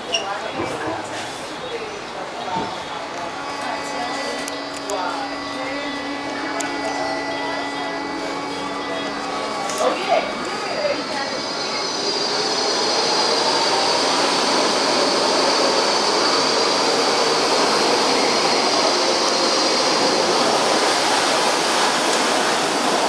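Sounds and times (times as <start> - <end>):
train wheels rushing on rail: 0.0 - 23.0.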